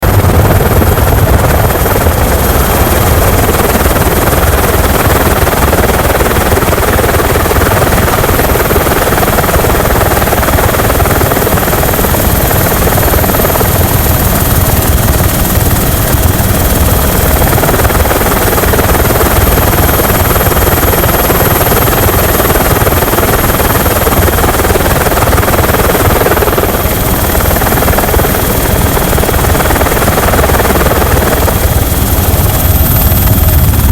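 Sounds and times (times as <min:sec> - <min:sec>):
helicopter rotor and engine: 0:00.0 - 0:33.9.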